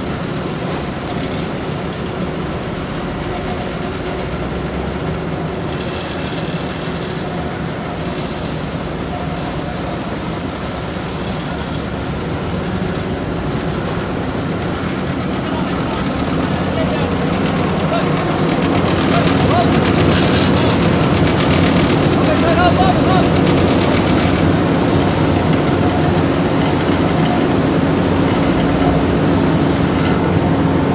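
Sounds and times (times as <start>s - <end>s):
diesel engines running: 0.0s - 30.9s
machinery hiss and rattle: 5.6s - 30.9s.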